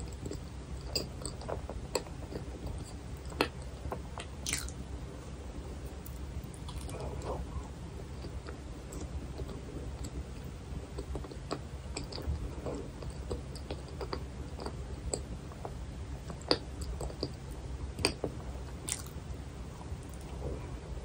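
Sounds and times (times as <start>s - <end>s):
woman chewing mouth sounds: 0.0s - 4.9s, 5.7s - 21.0s.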